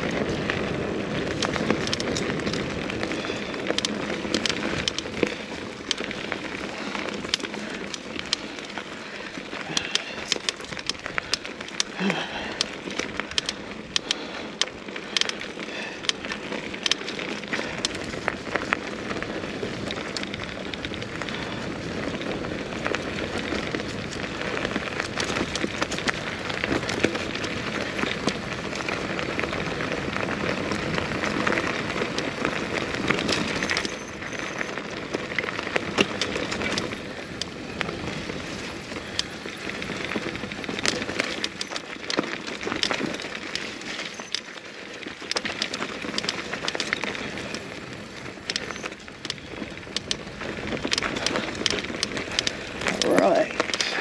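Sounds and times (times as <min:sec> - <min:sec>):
bike clicks and rattles: 0:00.0 - 0:54.0
bike tyres rolling over gravel: 0:00.0 - 0:54.0.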